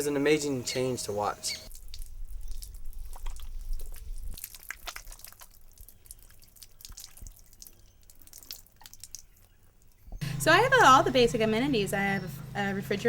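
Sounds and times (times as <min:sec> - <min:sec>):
water drips: 0:01.7 - 0:12.6.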